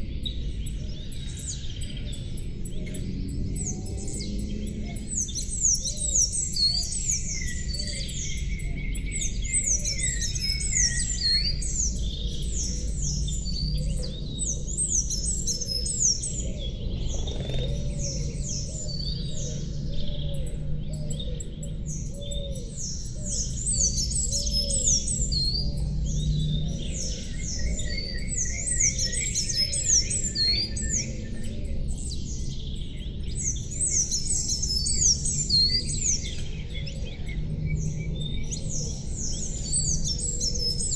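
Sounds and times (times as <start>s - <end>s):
soft musical drone: 0.0s - 40.9s
songbirds chirping: 0.0s - 40.9s.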